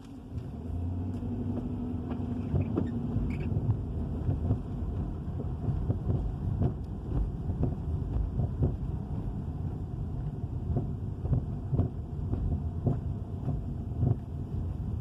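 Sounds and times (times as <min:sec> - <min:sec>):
road and engine rumble: 0:00.0 - 0:15.0
car rattling and knocking: 0:01.4 - 0:15.0.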